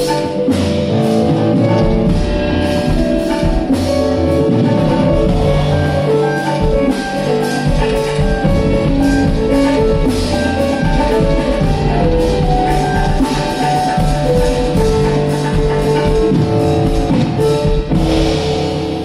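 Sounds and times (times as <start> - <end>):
held melodic notes: 0.0 - 18.7
electric guitar: 0.0 - 19.0
keyboard: 0.0 - 19.0.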